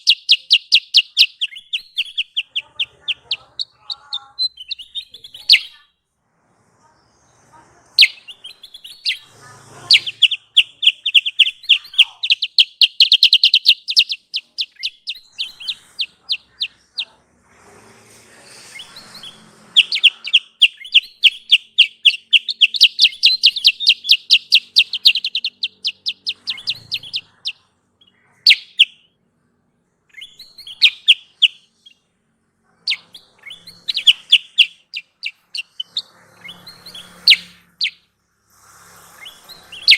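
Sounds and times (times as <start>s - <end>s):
bird calling in high chirps: 0.0s - 5.9s, 8.0s - 17.2s, 18.6s - 29.1s, 30.1s - 32.0s, 32.8s - 38.1s, 39.2s - 39.9s.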